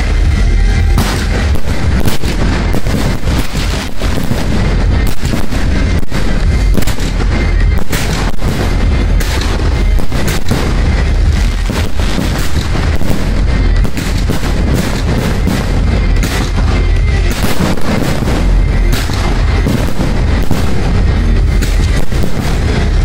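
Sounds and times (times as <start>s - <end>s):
fireworks bursting: 0.0s - 23.0s
music playing: 0.0s - 23.0s.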